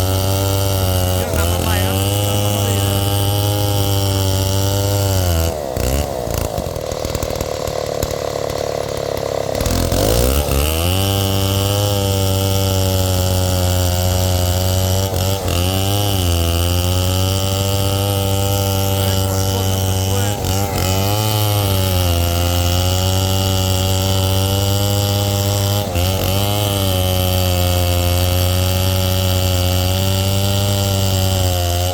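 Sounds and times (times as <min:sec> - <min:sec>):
chainsaw cutting into wood: 0:00.0 - 0:31.9
chainsaw running: 0:00.0 - 0:31.9.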